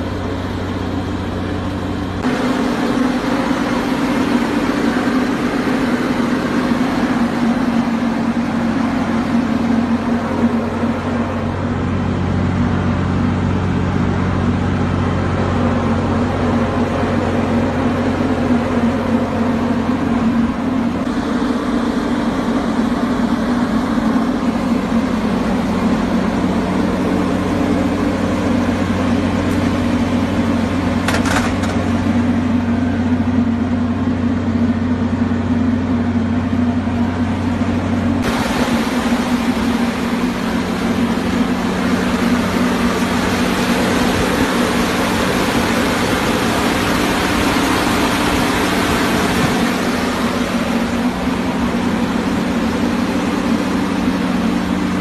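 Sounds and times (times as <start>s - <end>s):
machine humming: 0.0s - 55.0s.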